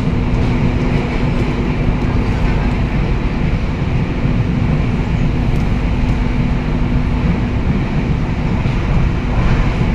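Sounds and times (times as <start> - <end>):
train rumble inside carriage: 0.0 - 9.9.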